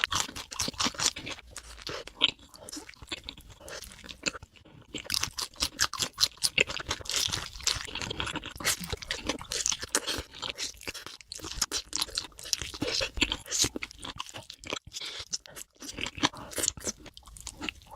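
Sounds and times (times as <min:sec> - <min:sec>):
chewing crunchy food: 0:00.0 - 0:17.9.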